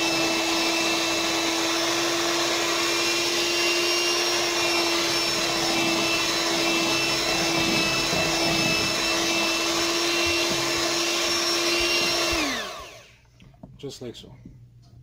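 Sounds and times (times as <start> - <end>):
electric mixer whining: 0.0 - 13.3.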